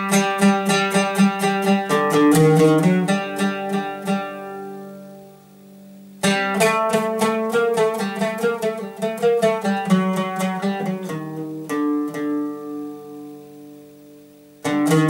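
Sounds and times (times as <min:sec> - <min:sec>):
oud plucked notes: 0:00.0 - 0:15.0.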